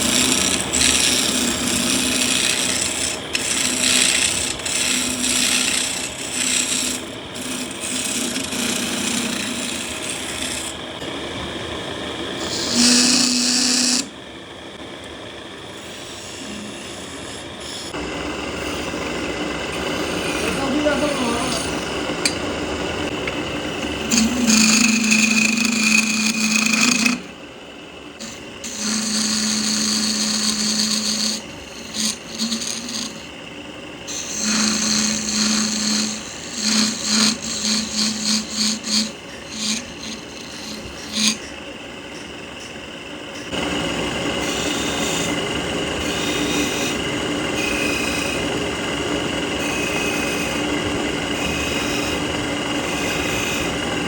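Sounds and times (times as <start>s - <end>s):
power tool working wood: 0.0s - 27.4s, 28.2s - 54.0s
steady motor hum: 0.0s - 54.0s.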